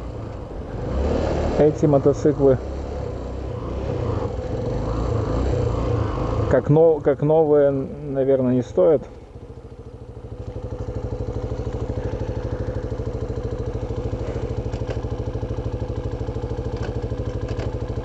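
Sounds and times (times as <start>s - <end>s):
motorcycle engine idling: 1.6s - 18.0s.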